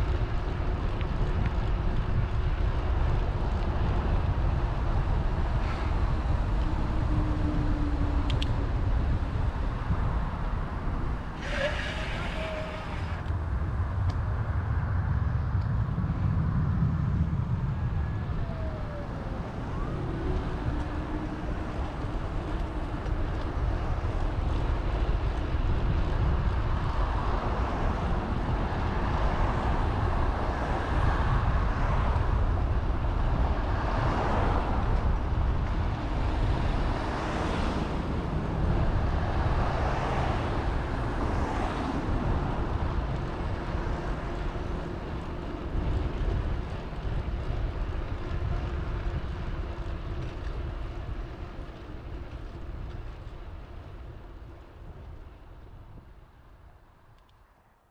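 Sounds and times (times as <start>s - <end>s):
road traffic passing: 0.0s - 57.9s
wind rumbling on microphone: 0.0s - 57.9s.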